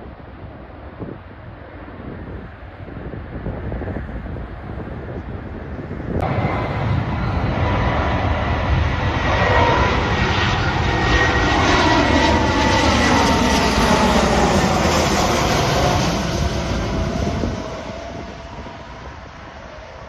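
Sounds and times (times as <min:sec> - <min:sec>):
aeroplane engines roaring: 0:00.0 - 0:20.0.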